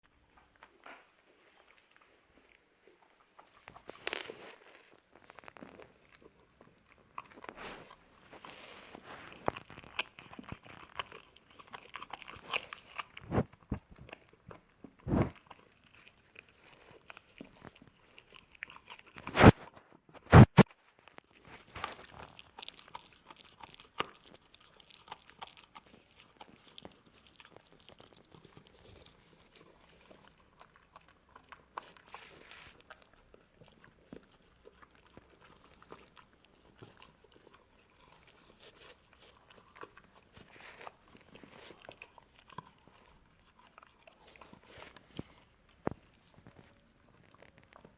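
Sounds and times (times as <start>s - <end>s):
puppy chewing a treat: 0.3s - 47.9s.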